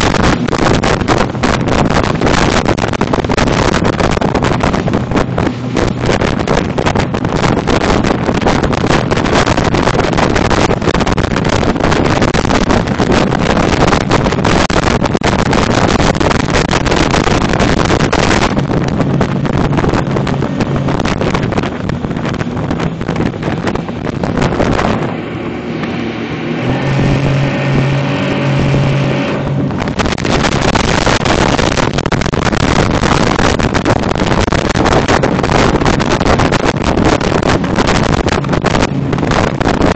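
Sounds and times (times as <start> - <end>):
boat engine hum: 0.0 - 39.9
wind buffeting microphone: 0.0 - 39.9.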